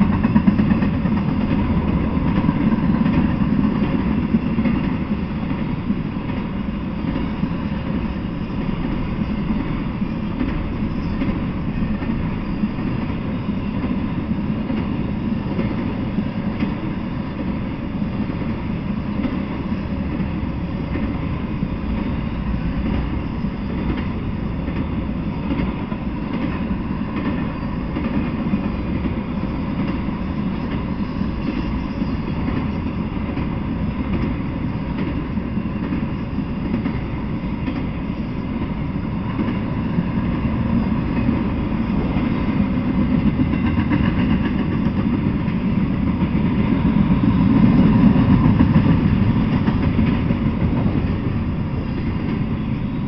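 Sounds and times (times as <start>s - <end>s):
freight train wheels rumbling on rails: 0.0s - 53.0s.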